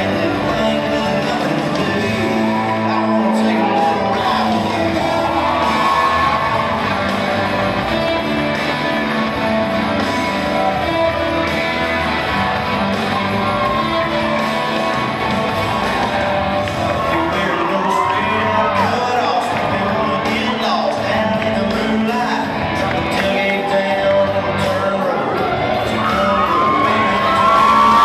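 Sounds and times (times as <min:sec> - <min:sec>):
loud music with guitar: 0:00.0 - 0:28.0.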